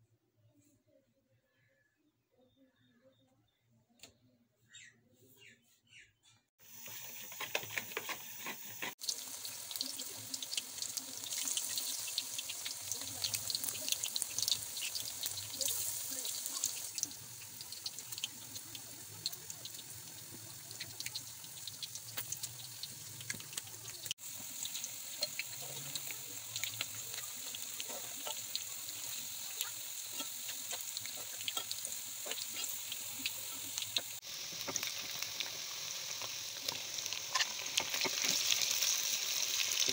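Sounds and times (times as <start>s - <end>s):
hot oil sizzling and crackling: 6.6s - 39.9s.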